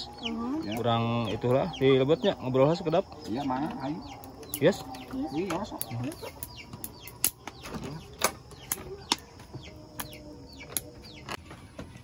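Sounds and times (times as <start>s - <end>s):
wood fire crackling and popping: 0.0s - 11.4s
bird chirps: 0.0s - 11.6s.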